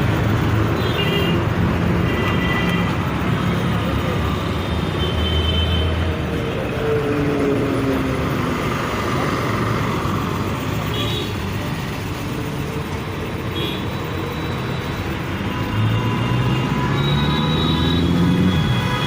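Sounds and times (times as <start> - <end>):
road traffic engines: 0.0 - 19.0.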